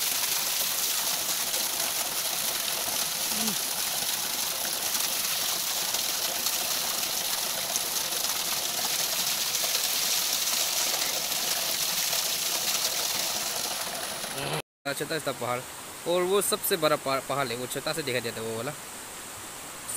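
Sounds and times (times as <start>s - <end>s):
small waterfall splashing: 0.0s - 16.9s.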